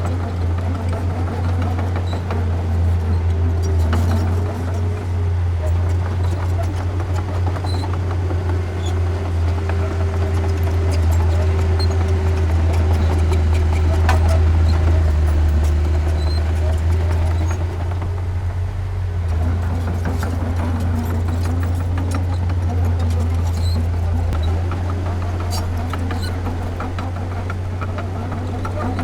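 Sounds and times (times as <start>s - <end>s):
short high squeaks: 0.0s - 17.8s, 19.6s - 29.0s
heavy machinery diesel engine droning: 0.0s - 29.0s.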